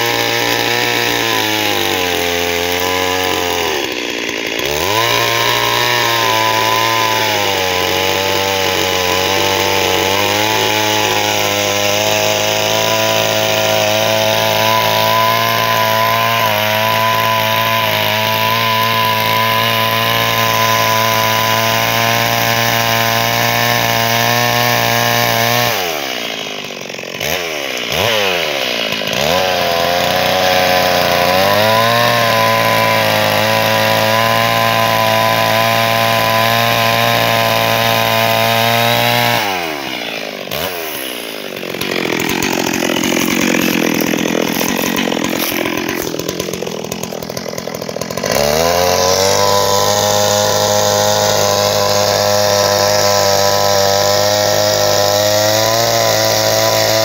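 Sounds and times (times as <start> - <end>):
chainsaw cutting a log: 0.0 - 57.0.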